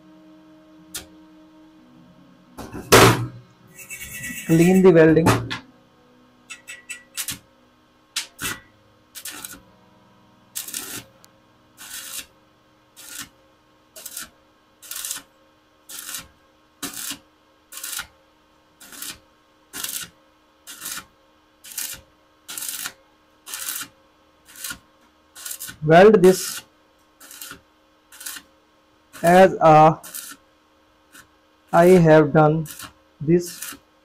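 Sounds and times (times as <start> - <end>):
welding arc crackling: 3.7 - 5.0, 6.5 - 7.5, 8.2 - 9.8, 10.5 - 34.0.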